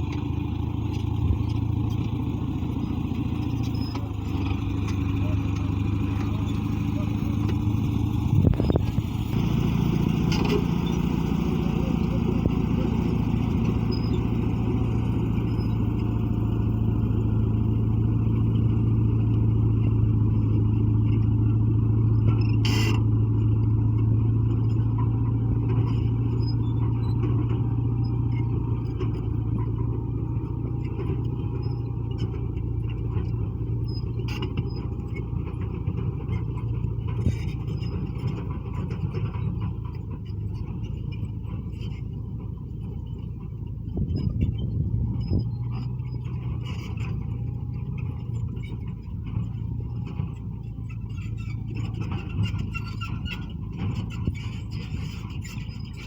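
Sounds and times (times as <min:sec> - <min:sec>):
bulldozer diesel engine drone: 0:00.0 - 0:56.0.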